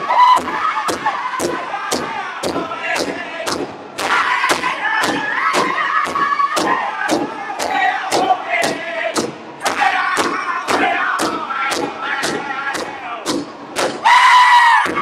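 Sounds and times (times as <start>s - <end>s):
large drum beating in unison: 0.3s - 14.1s
men singing high-pitched chant: 0.4s - 13.3s.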